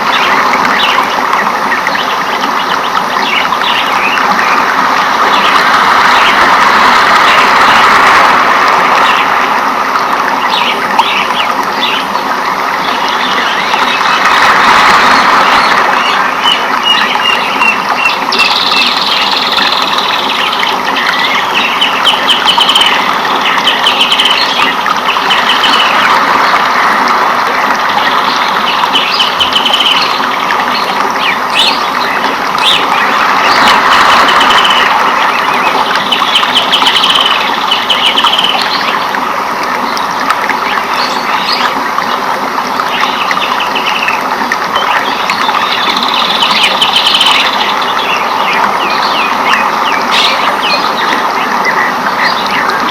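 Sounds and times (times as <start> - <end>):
birds chirping trills: 8.8 - 26.8, 27.5 - 52.9.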